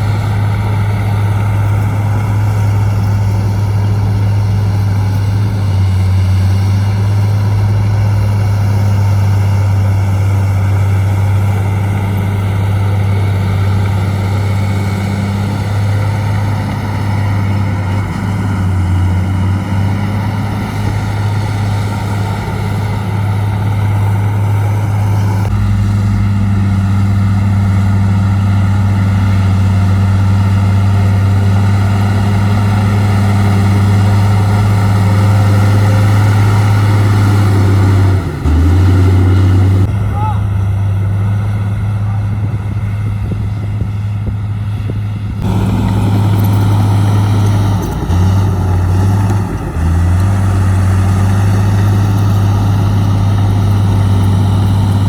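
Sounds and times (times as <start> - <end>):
diesel truck engine humming: 0.0 - 55.0.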